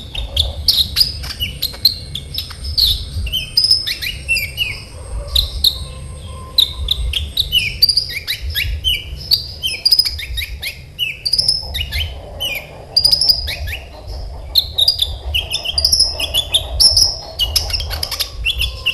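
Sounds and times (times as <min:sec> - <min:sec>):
low steady hum: 0:00.0 - 0:18.9
sunbird singing: 0:00.0 - 0:18.9.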